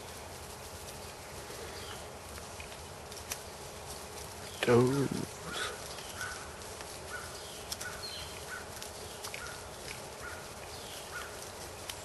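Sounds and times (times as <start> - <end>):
outdoor hiss: 0.0 - 12.0
small birds chirping: 0.9 - 12.0.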